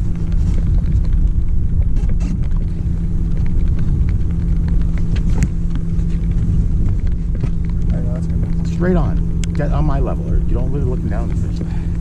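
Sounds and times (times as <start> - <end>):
boat motor rumbling: 0.0 - 12.0.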